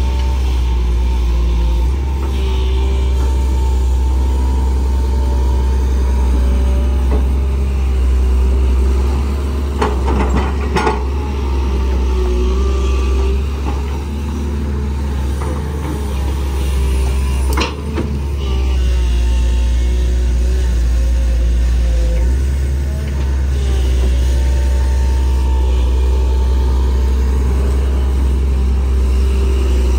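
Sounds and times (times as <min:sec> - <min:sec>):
diesel engine under load: 0:00.0 - 0:29.9
hydraulic pump whine: 0:00.0 - 0:29.9.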